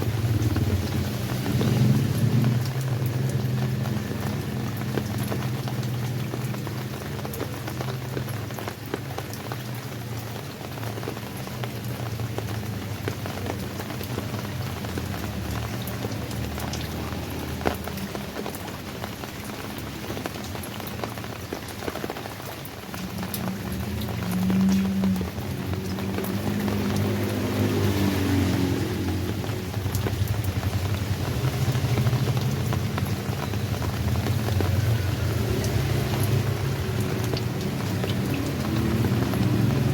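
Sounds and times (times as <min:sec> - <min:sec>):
raindrops ticking on surfaces: 0:00.0 - 0:39.9
steady wash of rain: 0:00.0 - 0:39.9.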